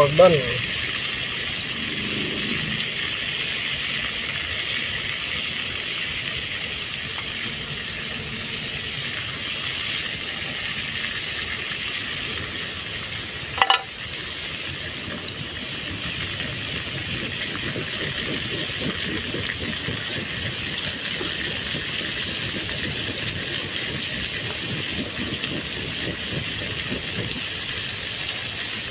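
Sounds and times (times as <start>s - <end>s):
fritters sizzling in hot oil: 0.0s - 28.9s.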